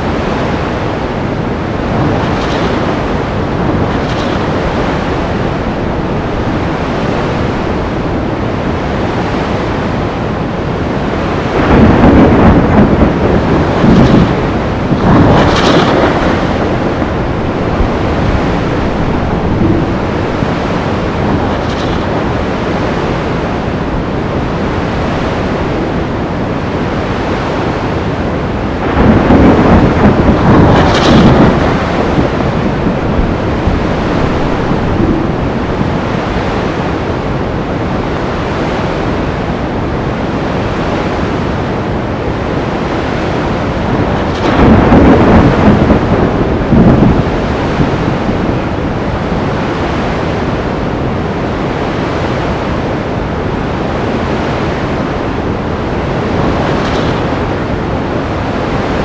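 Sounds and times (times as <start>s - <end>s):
thunder rolling: 0.0s - 38.5s, 39.4s - 51.7s, 52.6s - 59.0s
breaking waves: 0.0s - 59.0s
wind: 0.0s - 59.0s.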